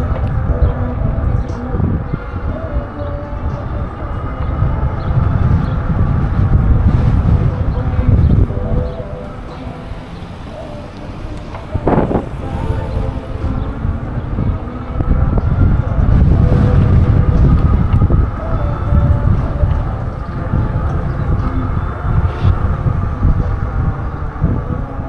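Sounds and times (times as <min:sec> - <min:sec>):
road rumble: 0:00.0 - 0:25.0
wind buffeting microphone: 0:00.0 - 0:25.0.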